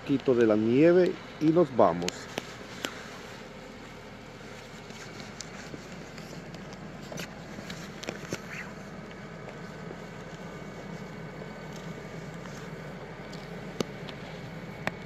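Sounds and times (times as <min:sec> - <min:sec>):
steady low hum: 0:00.0 - 0:15.0
footsteps crunching in snow: 0:02.1 - 0:14.7.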